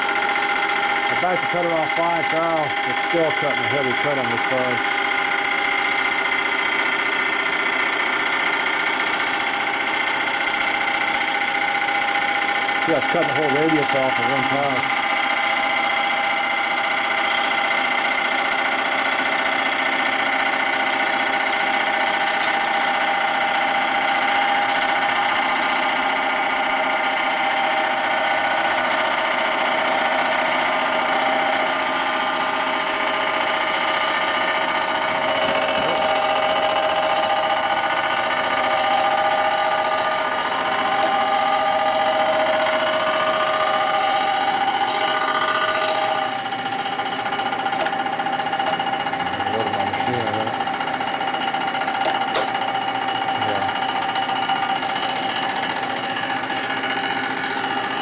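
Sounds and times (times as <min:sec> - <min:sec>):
milling machine whine: 0:00.0 - 0:58.0.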